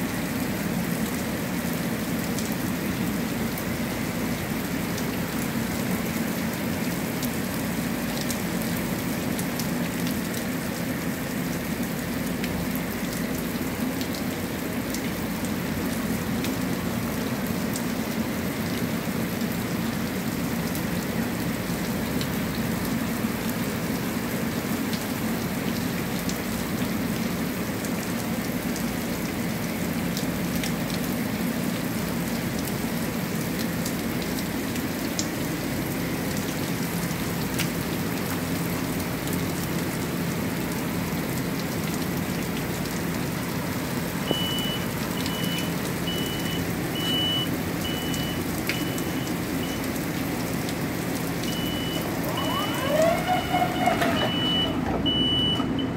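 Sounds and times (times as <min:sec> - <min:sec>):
heavy rain on concrete: 0:00.0 - 0:55.9.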